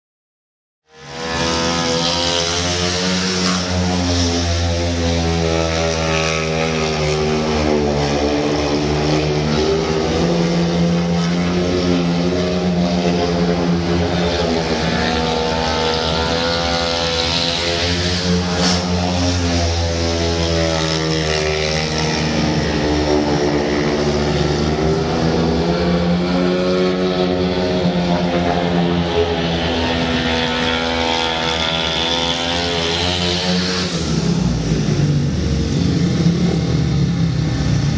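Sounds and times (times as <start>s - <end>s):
motorcycle engine revving: 0.9s - 37.9s.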